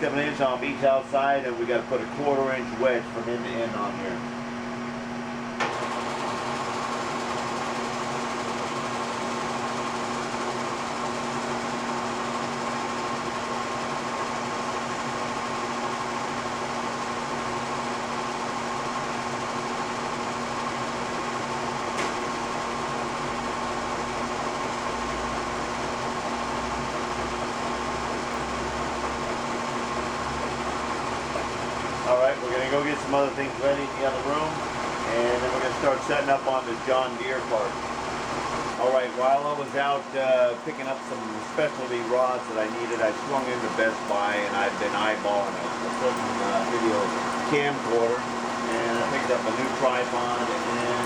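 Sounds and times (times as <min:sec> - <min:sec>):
milling machine cutting metal: 0:05.6 - 0:51.0.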